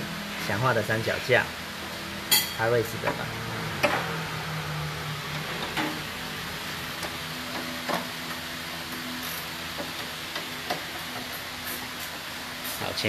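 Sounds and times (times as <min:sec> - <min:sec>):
workshop equipment humming: 0:00.0 - 0:13.0.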